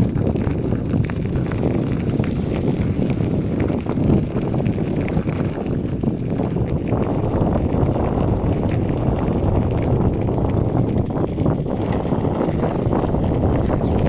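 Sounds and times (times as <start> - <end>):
bicycle rolling rumble: 0.0 - 14.0
small clicks and rattles: 0.0 - 14.0
wind buffeting microphone: 0.0 - 14.0.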